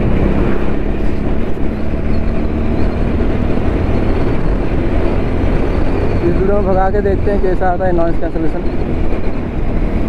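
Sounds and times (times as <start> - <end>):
motorcycle engine running: 0.0 - 10.0
wind rushing over microphone: 0.0 - 10.0.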